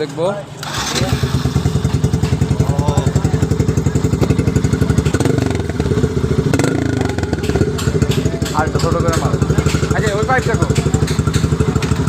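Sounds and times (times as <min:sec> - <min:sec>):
motorcycle engine idling: 0:00.6 - 0:12.0.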